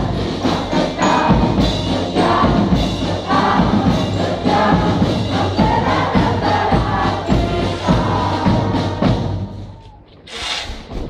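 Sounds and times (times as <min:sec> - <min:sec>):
large choir singing: 0:00.0 - 0:09.8
drums and cymbals beating: 0:00.0 - 0:11.0.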